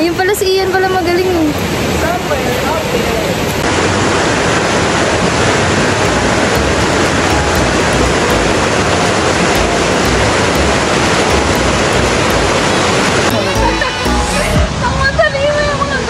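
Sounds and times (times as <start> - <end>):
water rushing over rocks: 1.3 - 16.0.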